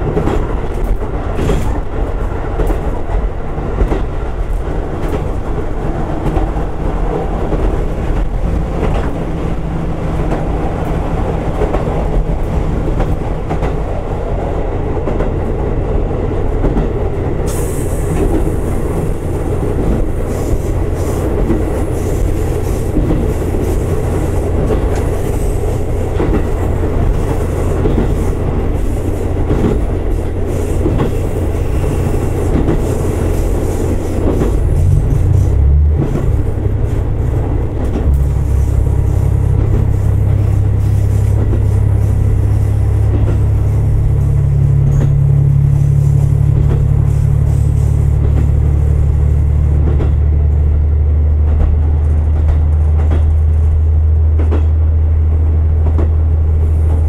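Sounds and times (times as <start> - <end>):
rail clicks: 0.0 - 57.0
railcar engine and rolling drone: 0.0 - 57.0.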